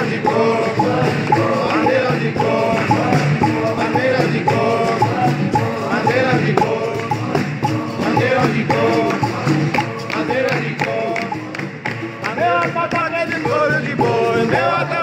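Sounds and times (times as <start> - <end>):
berimbaus and pandeiros playing: 0.0 - 14.8
atabaque drum rhythm: 0.0 - 15.0
voices singing a chorus: 0.0 - 15.0.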